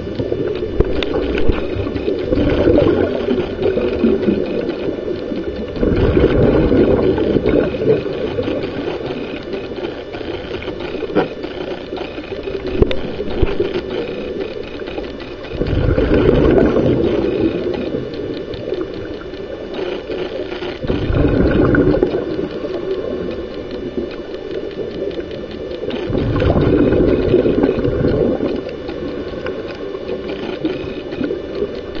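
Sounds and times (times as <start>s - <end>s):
exhaled bubbles underwater: 0.0s - 32.0s.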